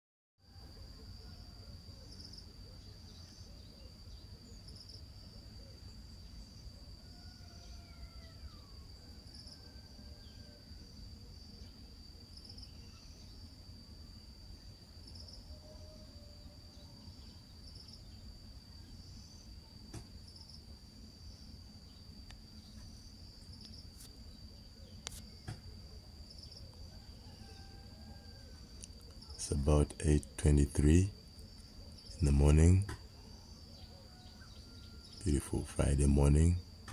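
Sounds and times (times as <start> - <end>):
high-pitched insect trill: 0.4 - 36.9.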